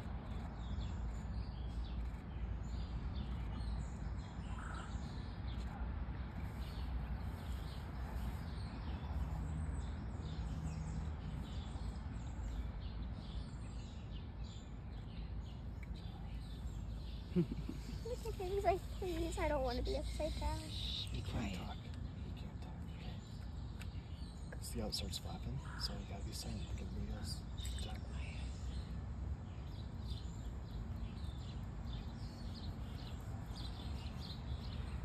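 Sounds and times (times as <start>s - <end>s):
birds chirping: 0.0s - 35.0s
low background rumble: 0.0s - 35.0s.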